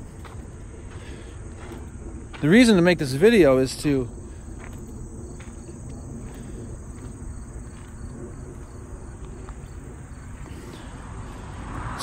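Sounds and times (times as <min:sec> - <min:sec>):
insects chirring: 0:00.0 - 0:12.0
low rumble: 0:00.0 - 0:12.0.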